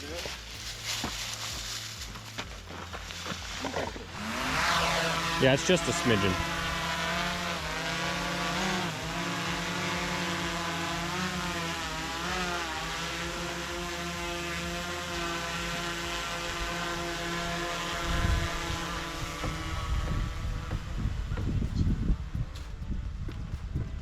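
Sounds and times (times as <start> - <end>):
low rumble: 0.0 - 24.0
vehicle engine running: 0.0 - 24.0.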